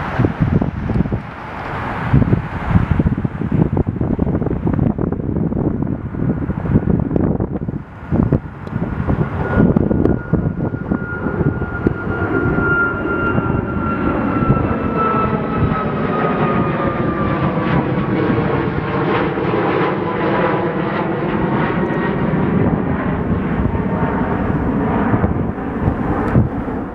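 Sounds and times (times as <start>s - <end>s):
jet airliner passing: 0.0s - 26.9s
wind buffeting microphone: 0.0s - 26.9s.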